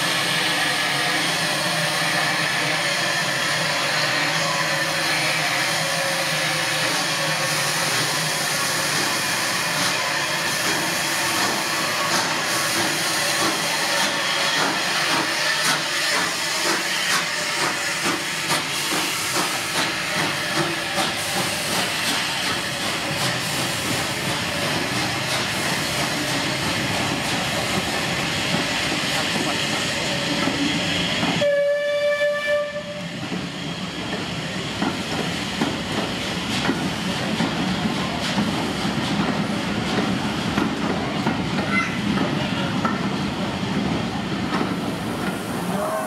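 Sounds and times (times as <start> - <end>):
steam hissing: 0.0 - 31.8, 32.7 - 46.0
steam locomotive exhaust beats: 0.0 - 46.0.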